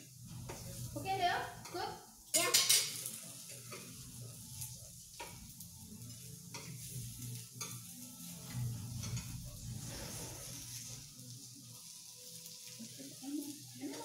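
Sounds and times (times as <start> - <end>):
meat sizzling on a hot plate: 0.0 - 14.0.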